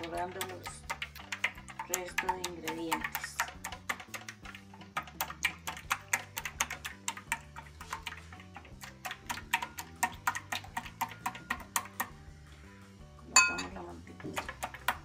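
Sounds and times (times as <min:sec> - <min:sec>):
whisk clicking against glass bowl: 0:00.0 - 0:12.1, 0:14.3 - 0:15.0.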